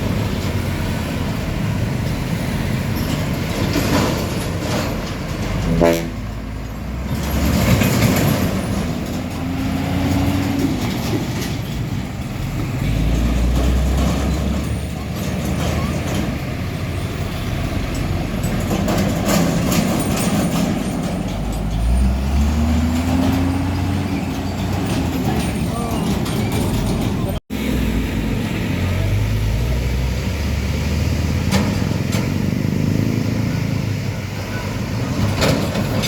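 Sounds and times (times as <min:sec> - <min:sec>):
diesel trucks driving past: 0:00.0 - 0:36.0
truck accelerating: 0:00.0 - 0:36.0.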